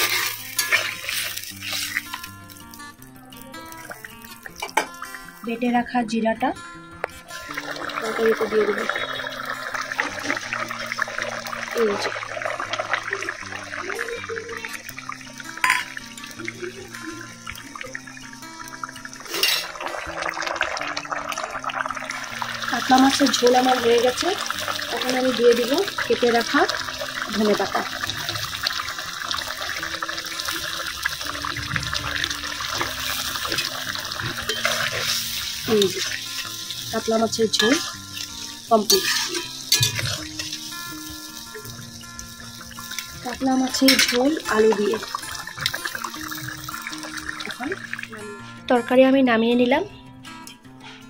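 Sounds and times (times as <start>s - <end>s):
curry bubbling: 0.0s - 5.6s, 7.1s - 48.2s
music with low held notes: 0.0s - 51.0s.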